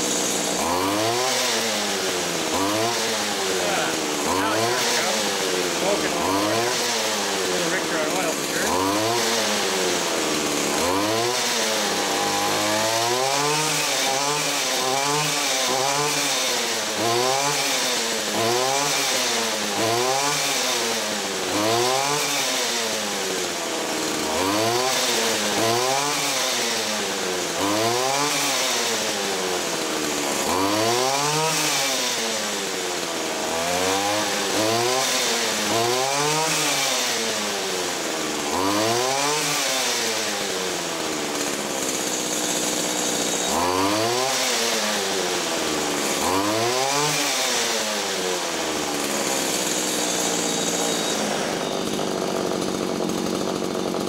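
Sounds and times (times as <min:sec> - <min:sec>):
trimmer engine revving unevenly: 0:00.0 - 0:54.0.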